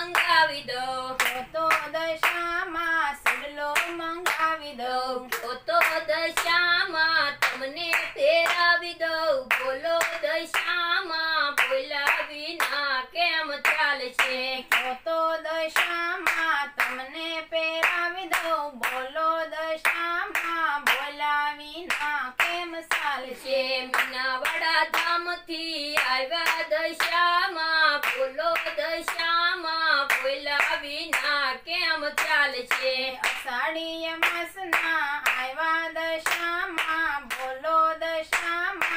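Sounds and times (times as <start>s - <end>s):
hand claps: 0.0s - 12.9s, 13.5s - 15.0s, 15.7s - 17.1s, 17.8s - 38.9s
high voices singing devotional song: 0.0s - 38.9s.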